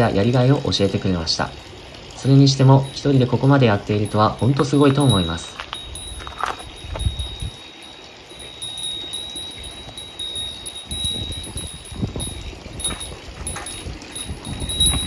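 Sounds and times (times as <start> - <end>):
high chime-like ringing tone: 2.7 - 15.0.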